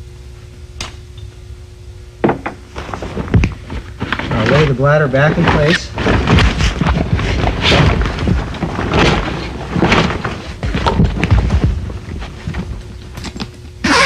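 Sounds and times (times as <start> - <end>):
vinyl and fabric rustling: 2.6 - 14.0.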